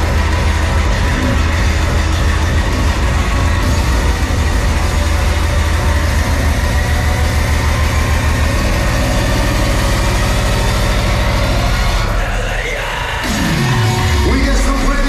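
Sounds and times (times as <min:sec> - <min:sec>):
loud hardcore electronic music: 0:00.0 - 0:15.0.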